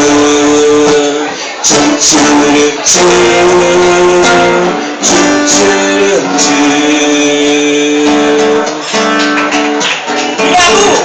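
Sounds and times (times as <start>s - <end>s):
live band music led by guitar: 0.0s - 11.0s.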